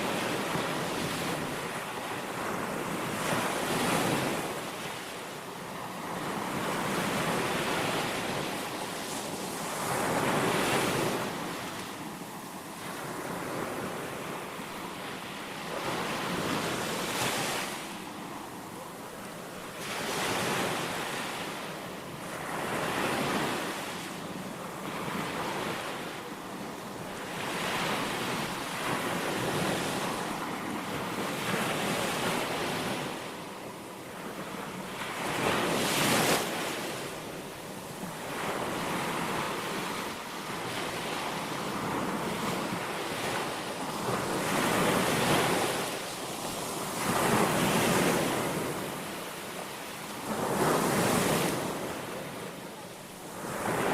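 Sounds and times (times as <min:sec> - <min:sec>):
small waves breaking on sand: 0:00.0 - 0:53.9.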